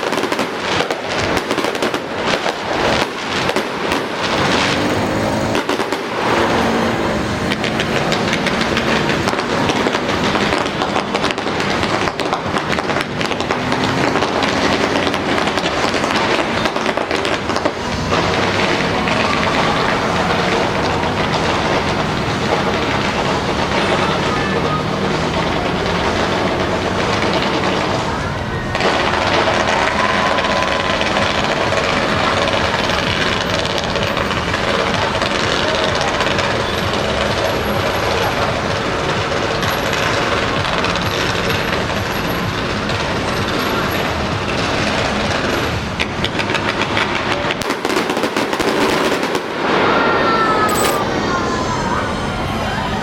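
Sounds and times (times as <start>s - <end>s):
fireworks crackling and banging: 0.0s - 50.2s.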